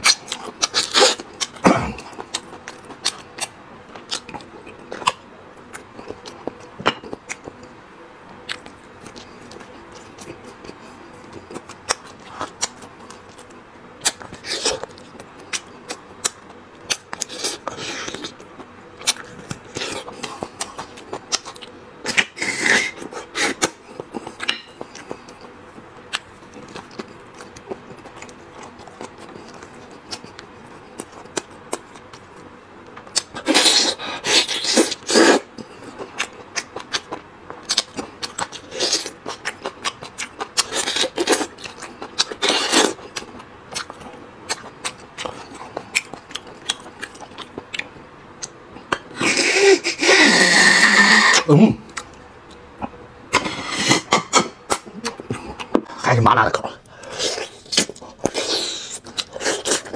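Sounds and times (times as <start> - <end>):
man chewing: 0.0 - 59.9.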